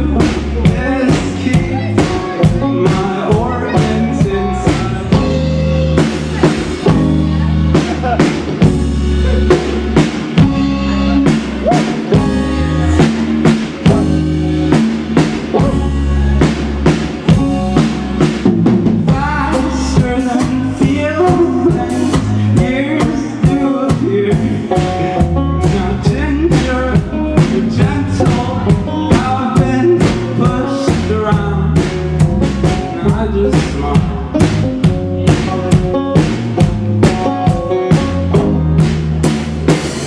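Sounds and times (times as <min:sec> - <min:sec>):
drum kit beating: 0:00.0 - 0:40.0
rock band playing: 0:00.0 - 0:40.0.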